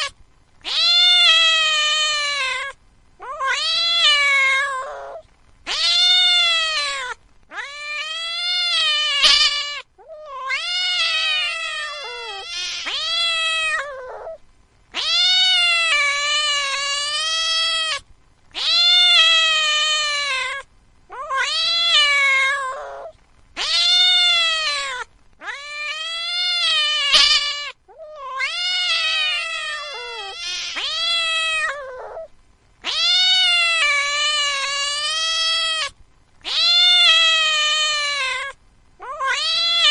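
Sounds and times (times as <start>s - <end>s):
cat yowling: 0.0s - 18.0s, 18.6s - 39.9s.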